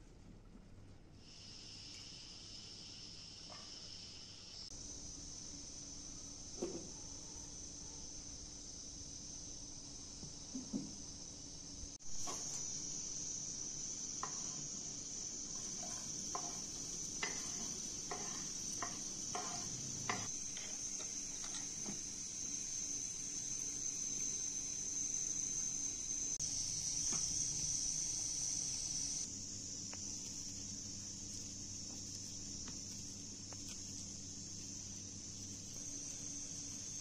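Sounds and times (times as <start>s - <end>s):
steady high hiss: 1.0s - 37.0s.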